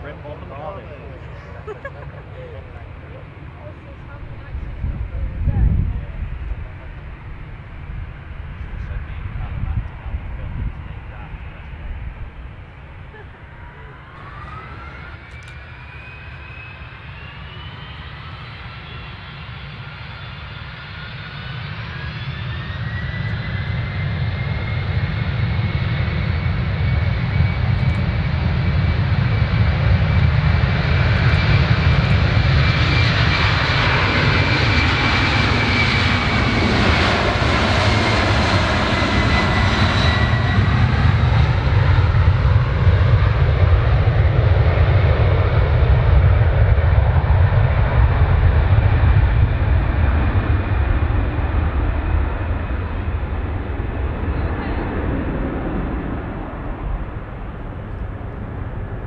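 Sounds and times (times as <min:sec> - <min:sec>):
jet engine roar: 0:00.0 - 0:59.0
jet engine whine: 0:00.0 - 0:59.0.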